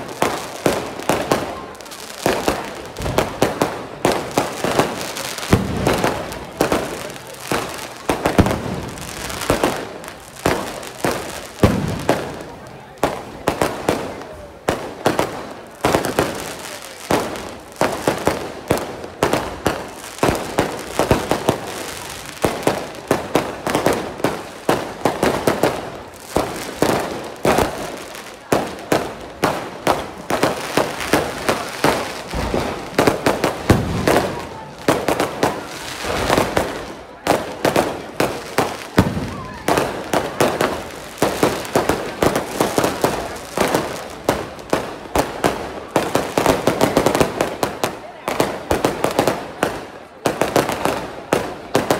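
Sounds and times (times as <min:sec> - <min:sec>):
fireworks bangs: 0:00.0 - 0:51.9.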